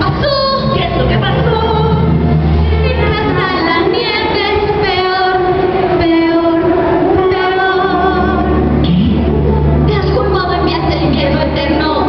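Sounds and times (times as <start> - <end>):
two women singing a duet: 0.0 - 8.7, 9.8 - 12.0.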